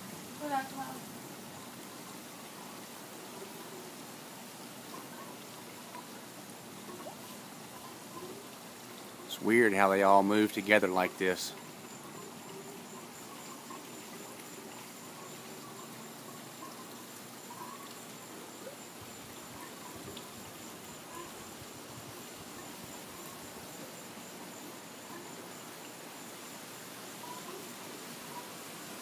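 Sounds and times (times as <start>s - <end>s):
soft background hiss: 0.0s - 29.0s.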